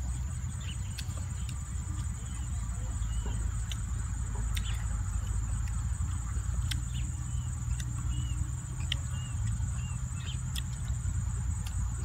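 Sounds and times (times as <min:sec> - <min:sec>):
crickets droning: 0:00.0 - 0:12.0
small birds chirping: 0:00.0 - 0:12.0.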